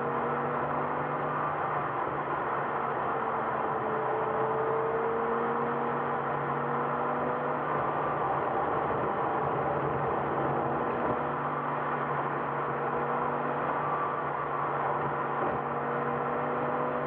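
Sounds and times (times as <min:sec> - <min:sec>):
in-car road and engine noise: 0:00.0 - 0:17.0.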